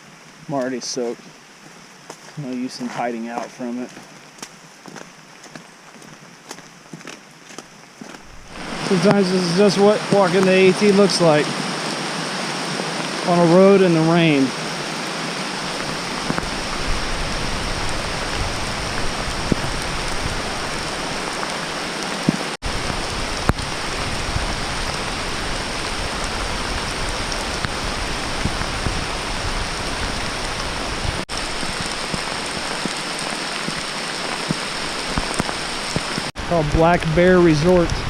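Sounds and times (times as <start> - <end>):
steady rain hiss: 0.0 - 38.0.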